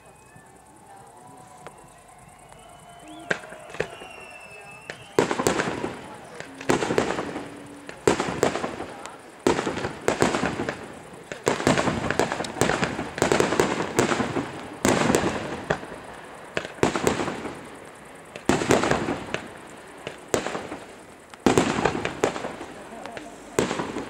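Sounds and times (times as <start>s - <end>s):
firework bangs: 0.8s - 24.0s.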